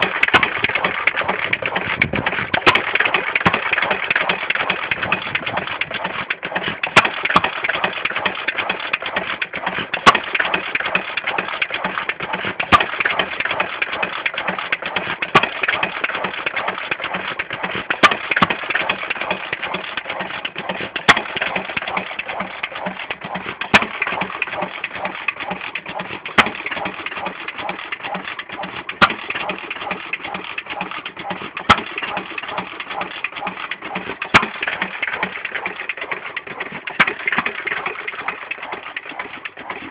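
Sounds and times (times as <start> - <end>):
engine mechanical clatter: 0.0 - 39.9.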